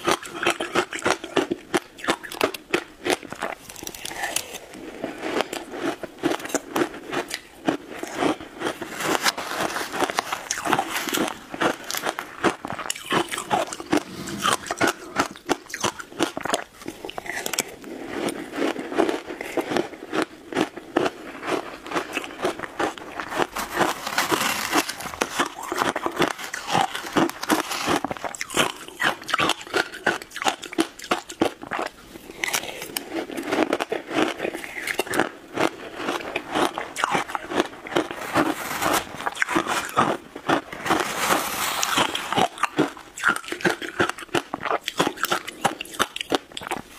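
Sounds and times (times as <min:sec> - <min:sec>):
crunching shaved ice: 0:00.0 - 0:46.9.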